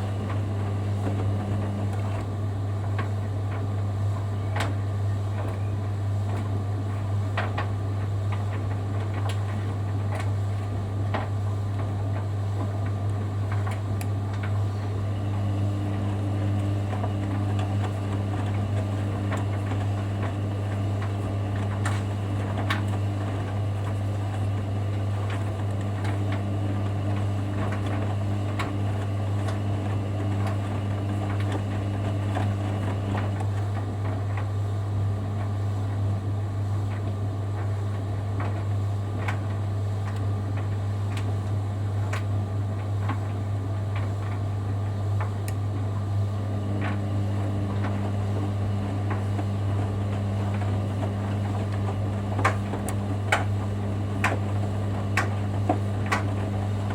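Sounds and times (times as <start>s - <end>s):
washing machine humming: 0.0s - 56.9s.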